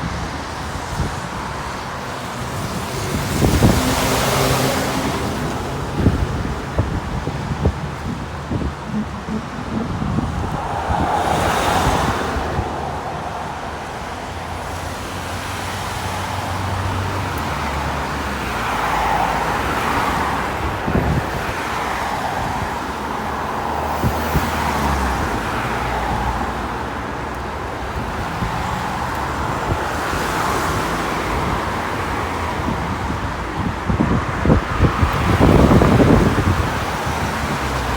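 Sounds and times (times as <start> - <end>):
buses and cars passing: 0.0 - 37.9.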